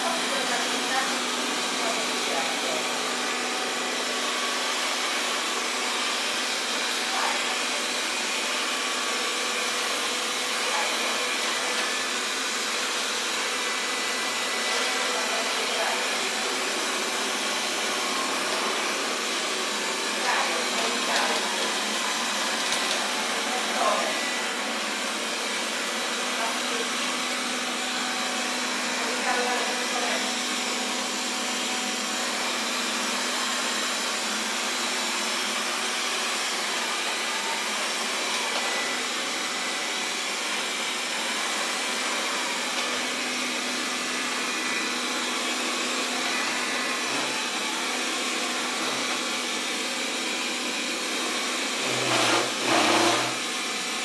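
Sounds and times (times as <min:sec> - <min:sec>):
robot vacuum whirring: 0:00.0 - 0:54.0.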